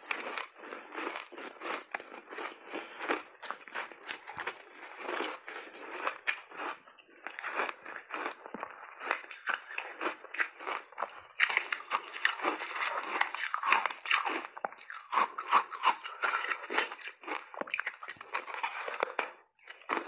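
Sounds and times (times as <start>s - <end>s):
crunching and chewing ice: 0.0s - 20.0s.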